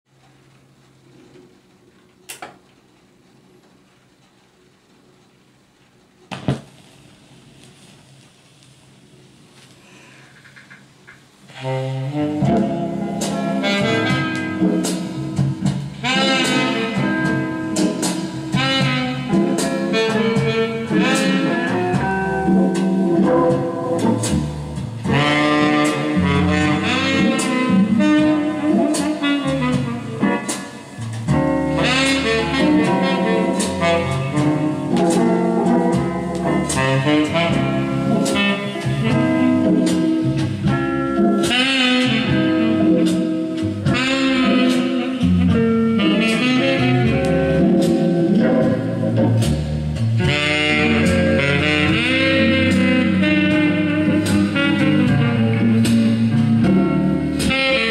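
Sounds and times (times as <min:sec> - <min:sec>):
jazz with saxophone from record: 0:00.1 - 0:57.9.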